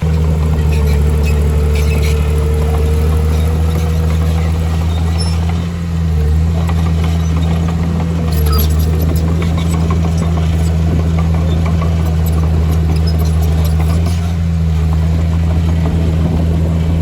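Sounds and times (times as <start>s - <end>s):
short squeaks: 0.0s - 15.0s
diesel engine running under load: 0.0s - 17.0s.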